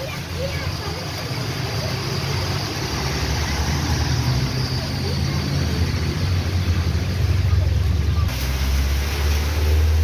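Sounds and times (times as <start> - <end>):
bus engine rumble: 0.0 - 10.0
steady rain on a street: 0.0 - 10.0
tyres hissing on wet road: 0.0 - 10.0.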